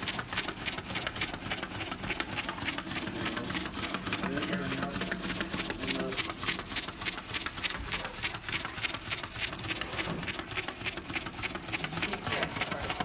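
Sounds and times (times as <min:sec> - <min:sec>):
gear motor hum: 0:00.0 - 0:13.0.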